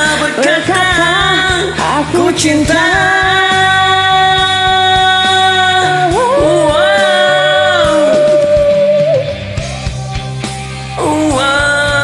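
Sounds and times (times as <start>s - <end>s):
rock ballad with bending lead melody: 0.0s - 12.0s.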